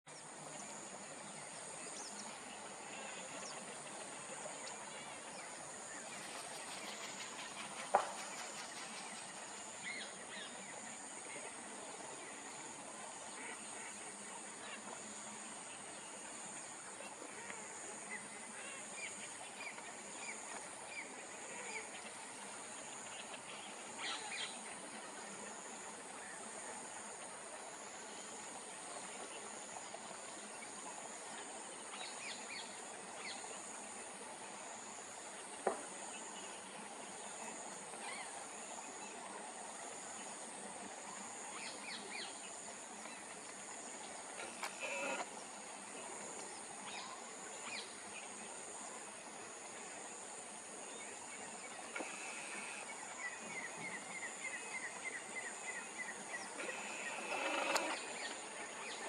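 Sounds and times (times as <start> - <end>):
high insect drone: 0.1 - 59.0.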